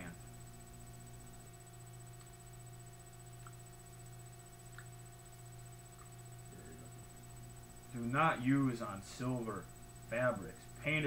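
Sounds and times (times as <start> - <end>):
faint high whine: 0.0 - 11.0
steady electrical hum: 0.0 - 11.0.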